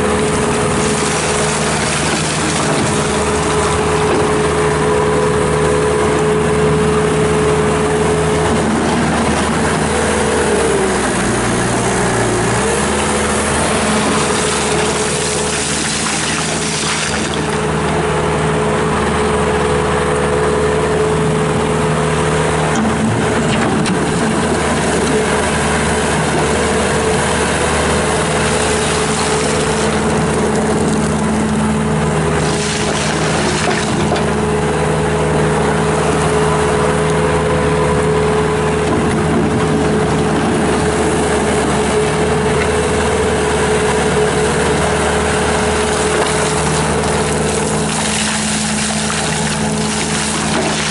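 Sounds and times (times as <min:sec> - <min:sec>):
diesel engine running steadily: 0:00.0 - 0:50.9.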